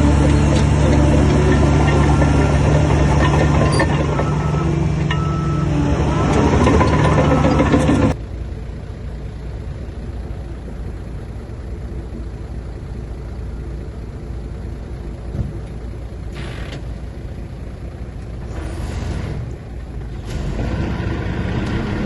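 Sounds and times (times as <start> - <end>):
diesel machinery engine running: 0.0 - 22.0.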